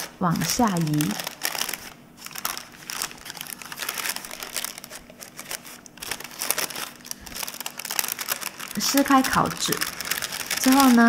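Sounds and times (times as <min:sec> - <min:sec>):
baking paper crinkling: 0:00.0 - 0:11.0.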